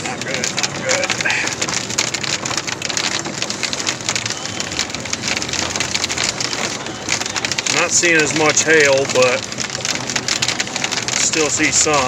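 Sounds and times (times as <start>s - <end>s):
hail and rain on vehicle roof: 0.0s - 12.0s.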